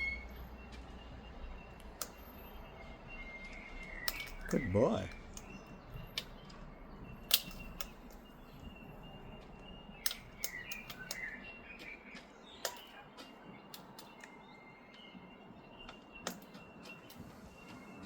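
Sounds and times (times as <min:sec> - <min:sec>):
faint bird chirps: 0:00.0 - 0:18.0
cockatoos clicking and tapping: 0:00.6 - 0:18.0.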